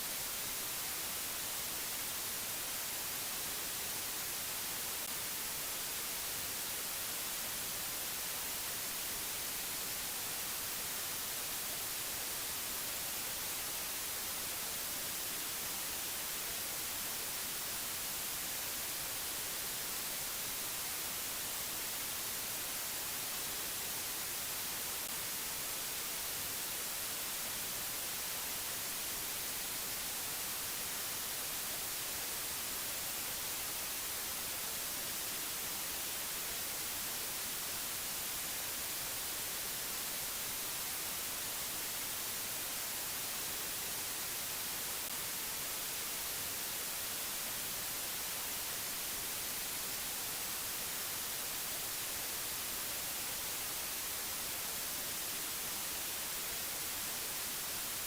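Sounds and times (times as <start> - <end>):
steady bright hiss: 0.0 - 58.0.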